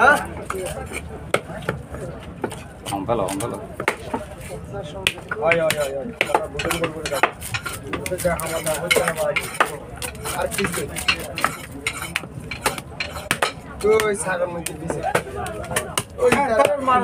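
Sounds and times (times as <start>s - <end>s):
knife scraping and tapping fish: 0.0s - 16.8s.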